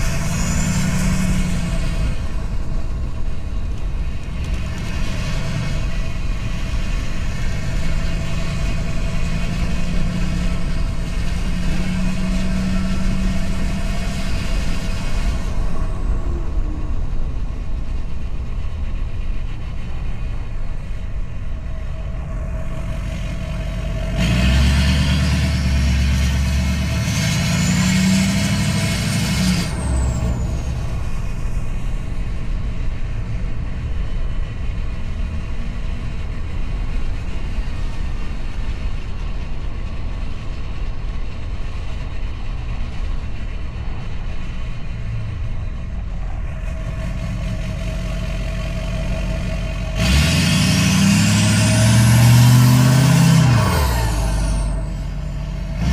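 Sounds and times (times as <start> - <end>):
diesel truck engine droning: 0.0 - 55.9.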